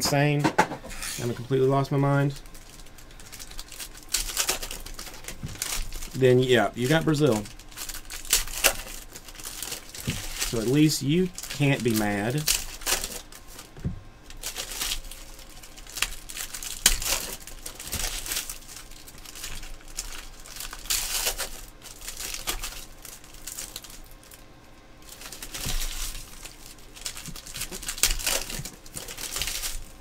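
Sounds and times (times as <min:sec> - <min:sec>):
foil wrappers crinkling: 0:01.2 - 0:30.0
packs being torn open: 0:01.8 - 0:13.7, 0:14.3 - 0:24.4, 0:25.0 - 0:30.0.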